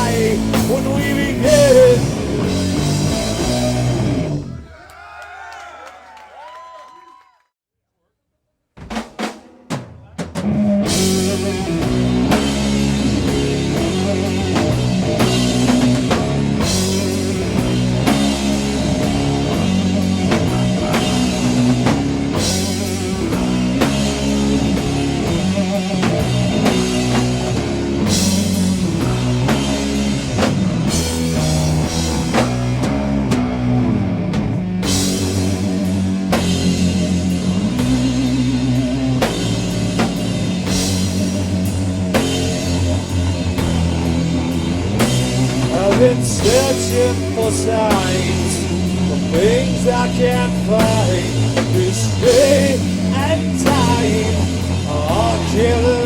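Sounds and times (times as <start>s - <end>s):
doom metal band playing: 0.0s - 4.6s, 9.2s - 56.0s
drum hits: 8.8s - 33.6s, 34.4s - 56.0s.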